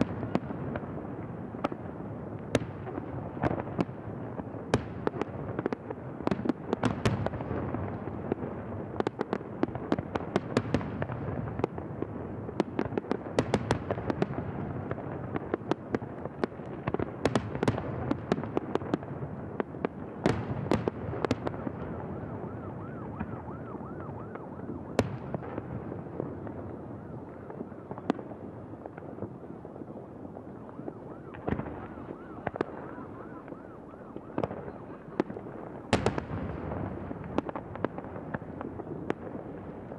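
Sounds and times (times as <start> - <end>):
fireworks rumbling crackle: 0.0 - 39.9.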